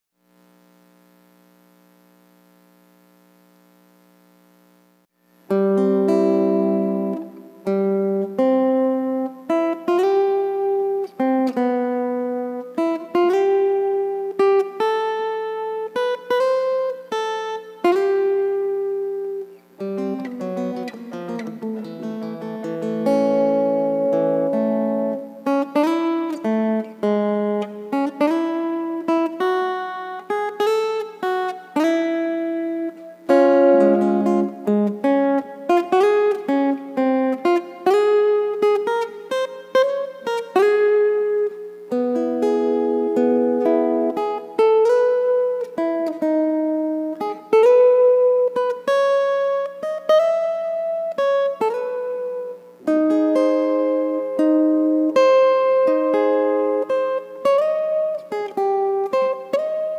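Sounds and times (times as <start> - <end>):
acoustic guitar solo: 5.4 - 59.9.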